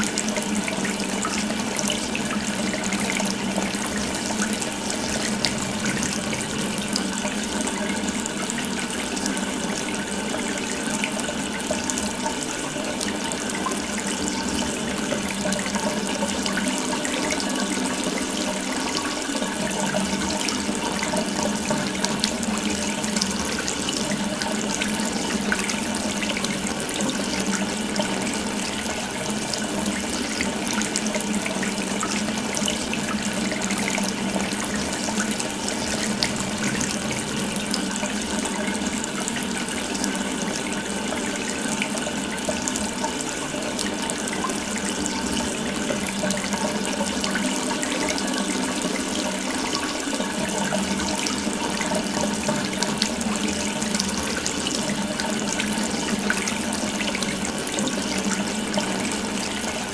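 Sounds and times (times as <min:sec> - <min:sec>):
tap water running: 0:00.0 - 0:59.9.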